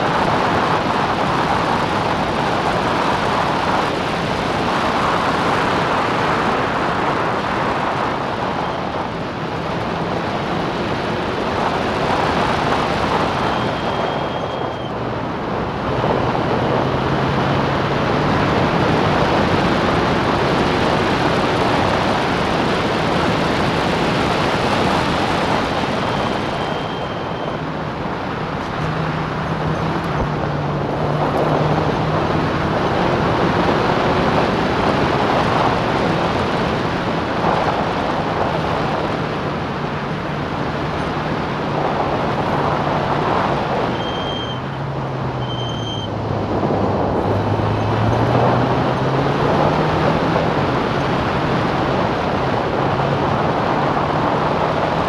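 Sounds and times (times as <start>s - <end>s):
wind and road rush: 0.0s - 55.0s.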